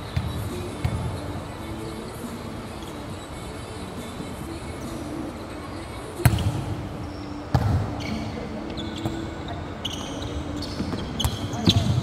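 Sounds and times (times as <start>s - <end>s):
sneakers squeaking on court: 0.0s - 5.5s, 6.1s - 12.0s.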